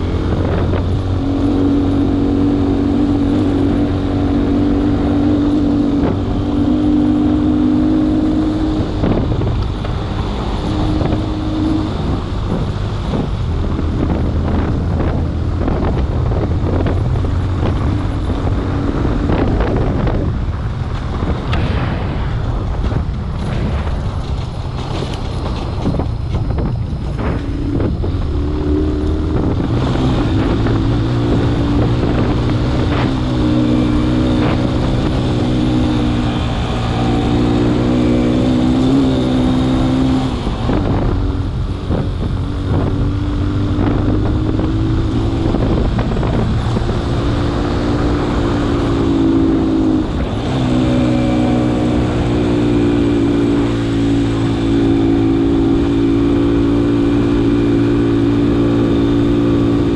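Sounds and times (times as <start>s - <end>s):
vehicle engine revving: 0.0s - 59.9s
vehicle rattling over bumps: 0.0s - 59.9s.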